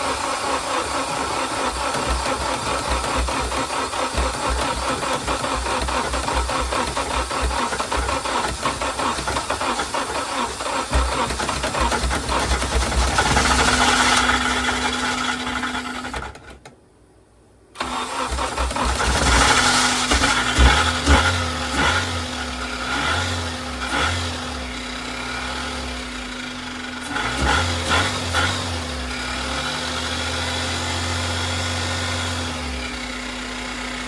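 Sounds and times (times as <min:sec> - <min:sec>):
car engine cranking and revving: 0:00.0 - 0:16.6, 0:17.8 - 0:34.0.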